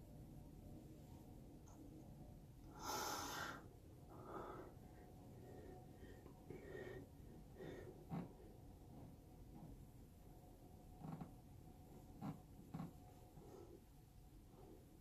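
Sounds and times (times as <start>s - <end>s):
soft breaths: 2.6s - 15.0s.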